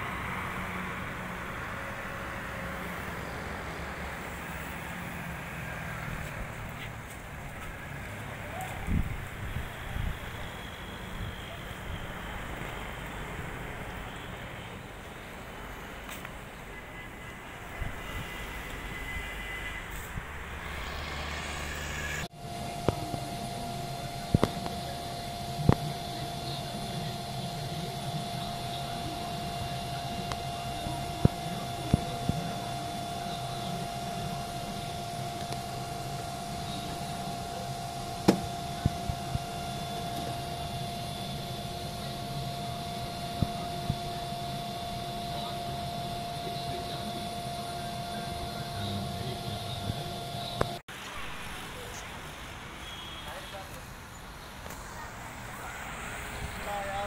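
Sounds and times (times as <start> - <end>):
constant steady hum: 0.0 - 57.0.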